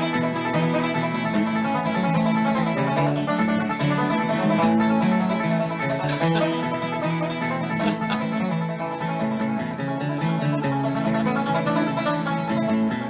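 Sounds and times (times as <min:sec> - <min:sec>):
bluegrass banjo and guitar music: 0:00.0 - 0:13.0.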